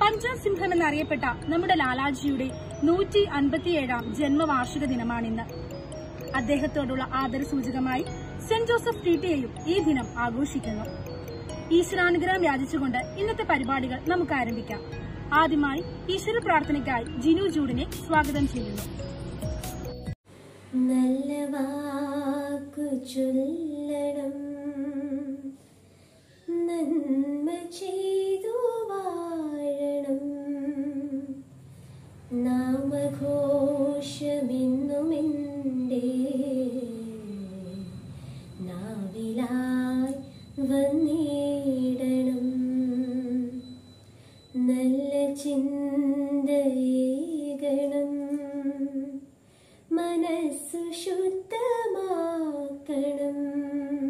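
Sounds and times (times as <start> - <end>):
woman singing unaccompanied: 0.0 - 18.8, 20.7 - 25.6, 26.5 - 31.6, 32.3 - 43.9, 44.5 - 54.0.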